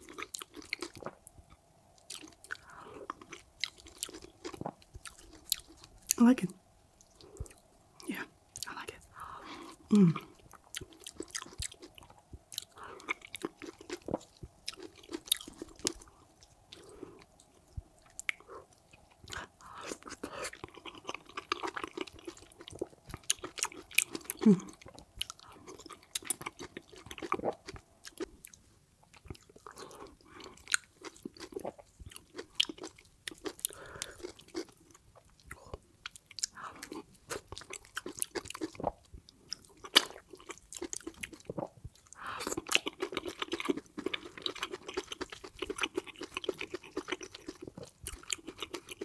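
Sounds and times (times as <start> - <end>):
wet chewing and mouth clicks: 0.0 - 6.2, 9.6 - 49.0.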